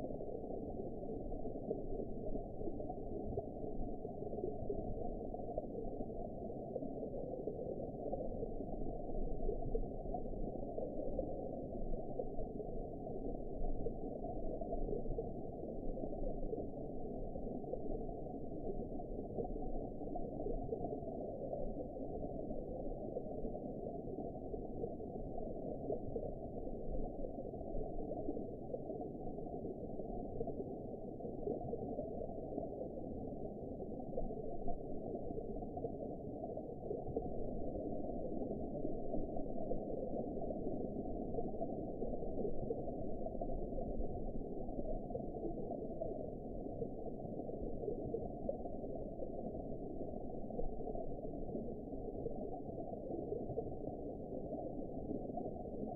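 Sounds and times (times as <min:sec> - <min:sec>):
underwater rumble: 0:00.0 - 0:55.9.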